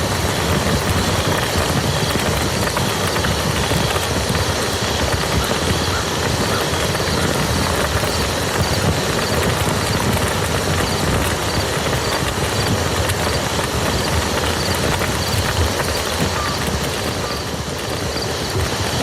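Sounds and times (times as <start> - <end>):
steady rain patter: 0.0 - 19.0.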